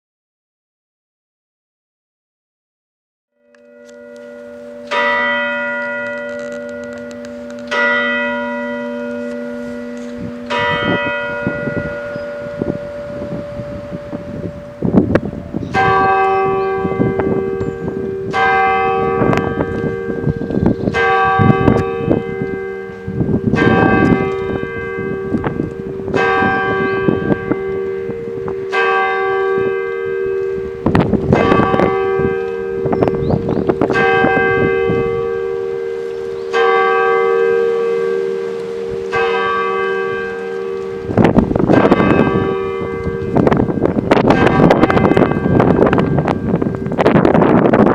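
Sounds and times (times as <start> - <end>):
church bells ringing: 3.4 - 47.9.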